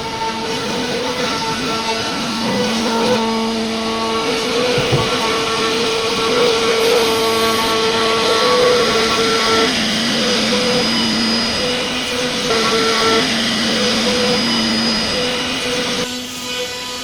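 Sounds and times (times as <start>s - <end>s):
router cutting wood: 0.0s - 17.0s.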